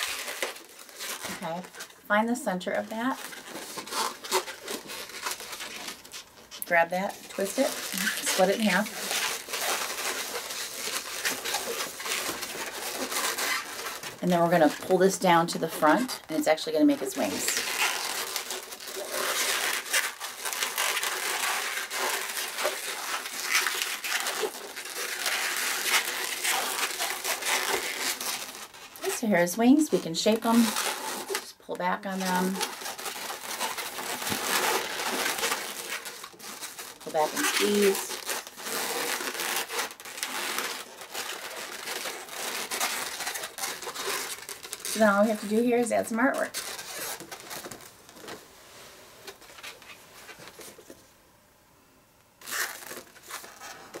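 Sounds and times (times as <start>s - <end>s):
balloons rubbing and squeaking: 0.0s - 48.4s, 52.4s - 54.0s.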